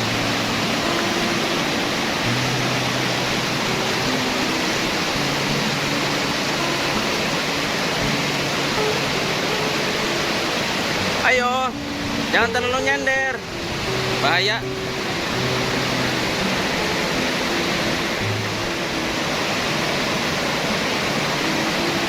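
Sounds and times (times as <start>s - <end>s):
music of low held notes: 0.0s - 22.0s
waterfall rushing: 0.0s - 22.0s.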